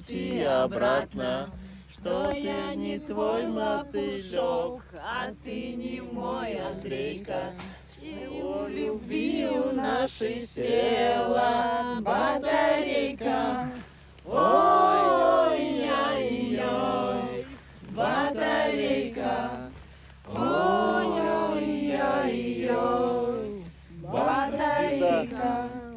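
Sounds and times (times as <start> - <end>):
people singing unaccompanied: 0.0 - 25.9.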